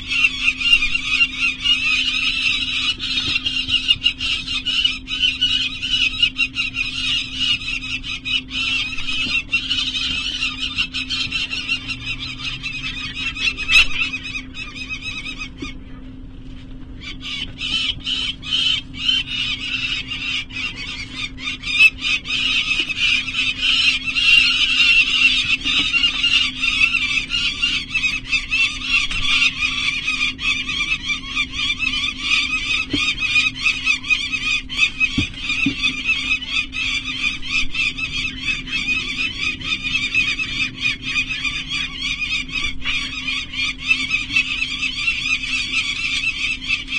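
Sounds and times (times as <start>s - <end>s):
faint steady hum: 0.0s - 46.9s
falcons calling in harsh chatter: 0.0s - 46.9s.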